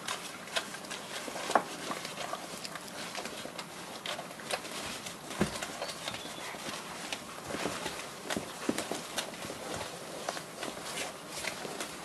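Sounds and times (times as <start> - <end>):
paws shifting on paper: 0.0 - 12.0
puppies suckling and scuffling: 0.0 - 12.0.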